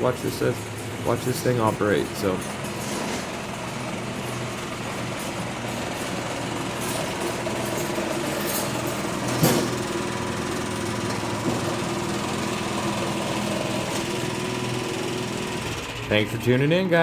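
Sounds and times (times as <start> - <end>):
snowblower engine running: 0.0 - 17.0.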